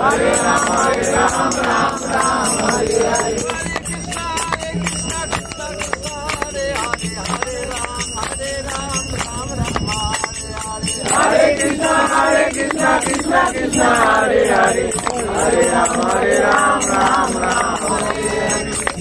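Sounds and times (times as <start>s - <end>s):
group singing a devotional chant: 0.0s - 19.0s
hand cymbals striking: 0.0s - 19.0s
hands clapping: 0.0s - 19.0s.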